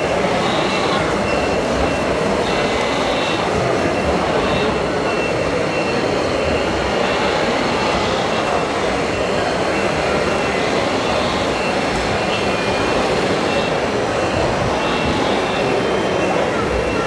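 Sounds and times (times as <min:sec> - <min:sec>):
faint high beep: 0:00.0 - 0:17.0.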